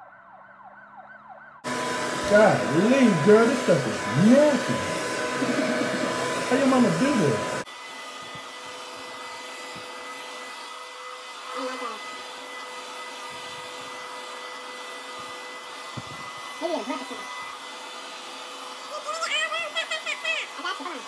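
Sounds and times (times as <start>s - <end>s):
hair dryer running: 1.6s - 21.0s.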